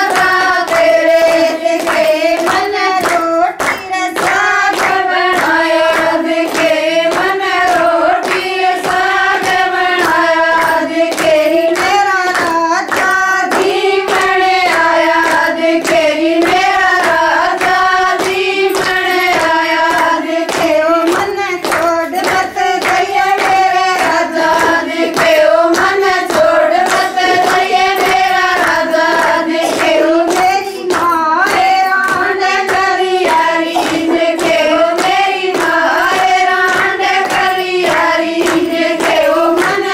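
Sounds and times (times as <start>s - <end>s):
rhythmic hand clapping: 0.0s - 39.9s
women singing folk song: 0.0s - 39.9s.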